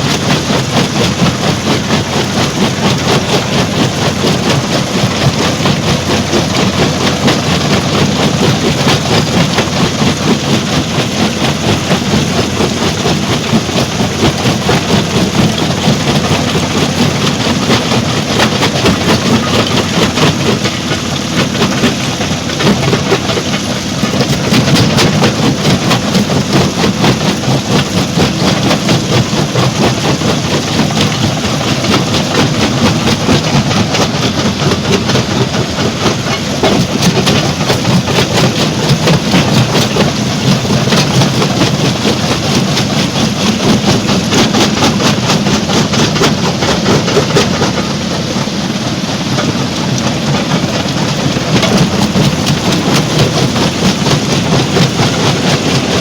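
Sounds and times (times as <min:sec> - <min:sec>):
rock clattering in crusher: 0:00.0 - 0:56.0.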